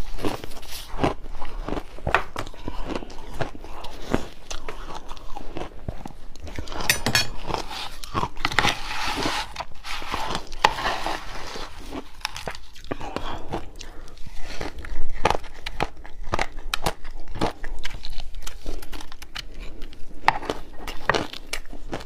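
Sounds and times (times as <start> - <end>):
ice being chewed crunching: 0.0 - 22.0.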